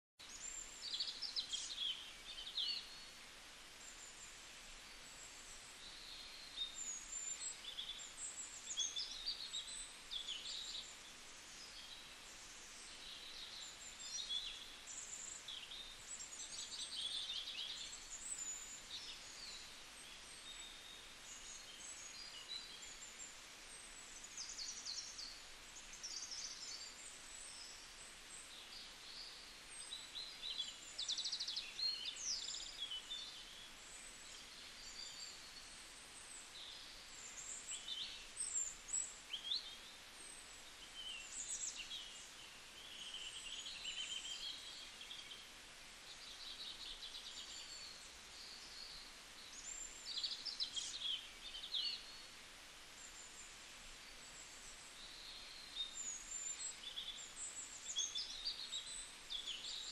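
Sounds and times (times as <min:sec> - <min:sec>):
outdoor background hiss: 0:00.2 - 0:59.9
small birds chirping: 0:00.2 - 0:59.9.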